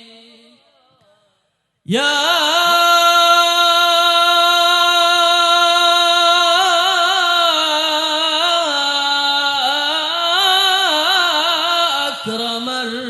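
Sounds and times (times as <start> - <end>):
person singing devotional song: 0.0 - 1.3, 1.9 - 13.0.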